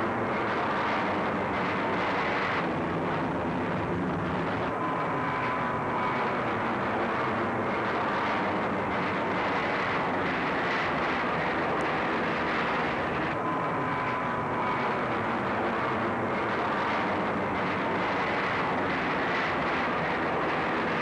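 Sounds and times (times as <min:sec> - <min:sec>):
faint high engine whine: 0:00.0 - 0:21.0
jet engines rushing: 0:00.0 - 0:21.0.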